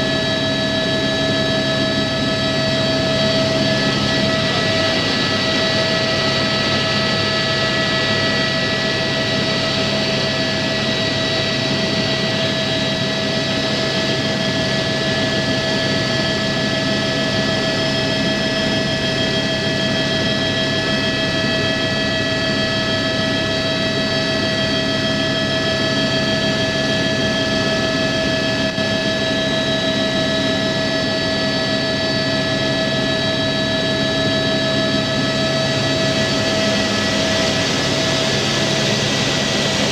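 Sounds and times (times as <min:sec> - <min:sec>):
helicopter engine and rotor noise: 0:00.0 - 0:39.9
high-pitched whine: 0:00.0 - 0:39.9.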